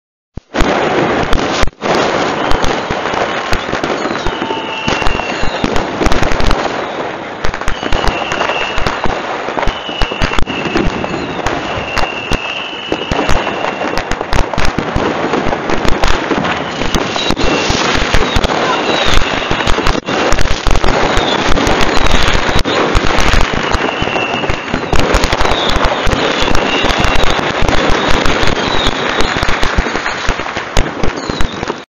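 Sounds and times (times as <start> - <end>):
fireworks crackling and banging: 0.4 - 31.9
high firework whistles: 0.5 - 31.9.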